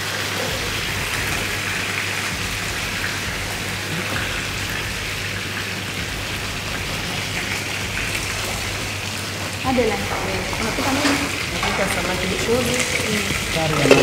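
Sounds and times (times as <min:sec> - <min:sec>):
food frying in hot oil: 0:00.0 - 0:14.0
low steady hum: 0:00.0 - 0:14.0.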